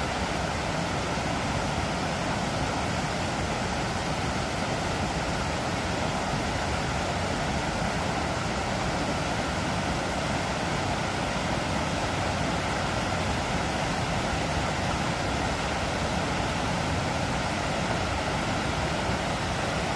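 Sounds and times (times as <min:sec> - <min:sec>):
water rushing over weir: 0:00.0 - 0:19.9.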